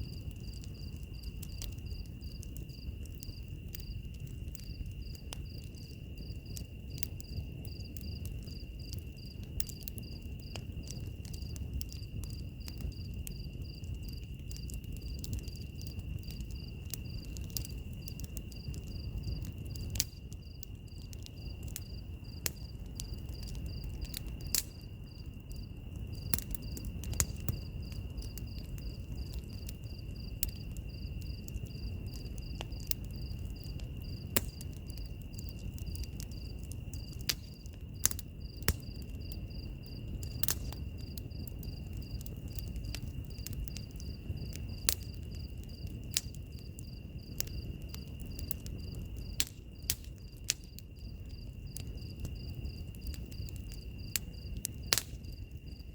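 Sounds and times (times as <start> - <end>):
insects trilling: 0.0 - 55.9
wood fire crackling: 0.0 - 55.9.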